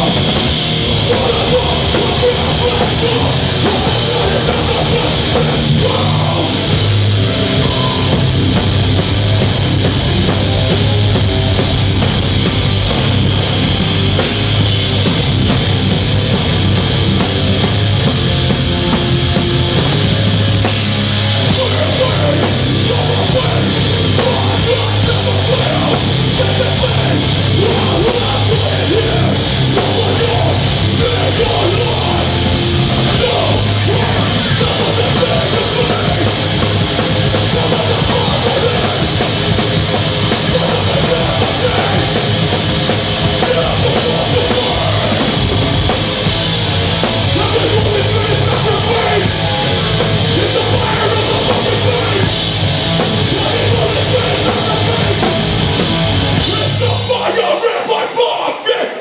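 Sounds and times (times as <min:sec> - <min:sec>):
pounding drum kit: 0:00.0 - 0:58.1
distorted electric guitar: 0:00.0 - 0:58.6.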